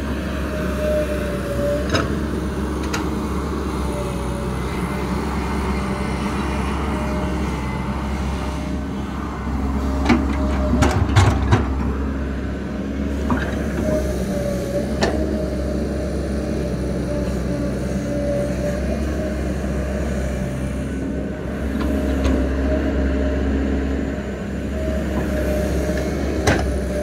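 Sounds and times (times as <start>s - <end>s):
excavator running under load: 0.0s - 27.0s.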